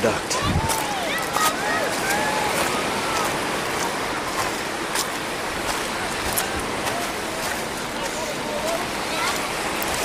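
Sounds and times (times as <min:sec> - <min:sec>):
rushing outdoor ambience: 0:00.0 - 0:10.0.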